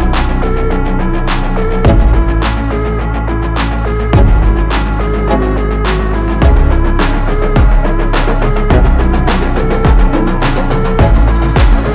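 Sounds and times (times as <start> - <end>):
electronic music with deep bass: 0.0 - 11.9.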